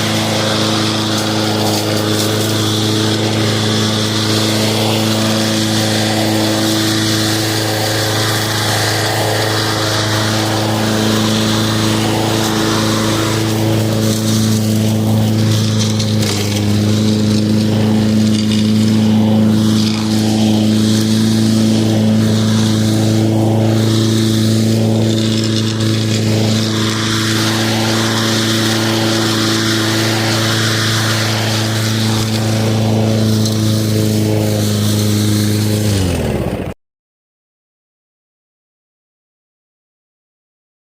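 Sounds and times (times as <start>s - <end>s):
lawn mower running: 0.0s - 36.8s.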